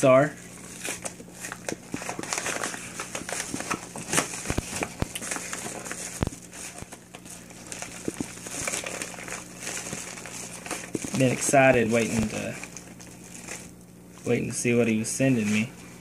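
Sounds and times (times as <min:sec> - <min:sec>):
paper mailer crinkling and tearing: 0:00.1 - 0:15.7.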